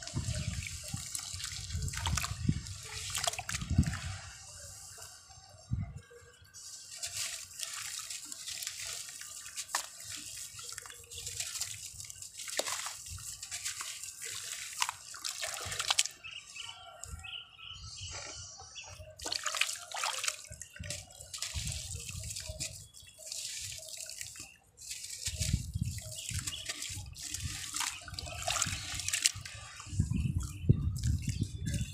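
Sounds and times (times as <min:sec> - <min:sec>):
splashes and drips in water: 0:00.0 - 0:04.2, 0:06.6 - 0:16.2, 0:19.2 - 0:31.9.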